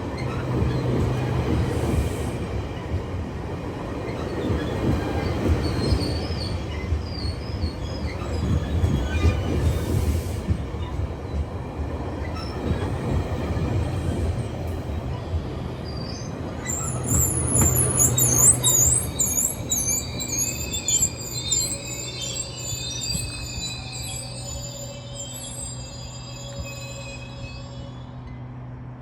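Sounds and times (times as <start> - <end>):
train wheels squealing: 0.0 - 3.2, 3.8 - 11.2, 12.0 - 28.8.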